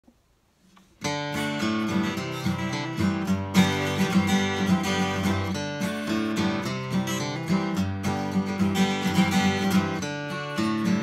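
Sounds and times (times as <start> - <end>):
acoustic guitar strumming chords: 1.0 - 11.0.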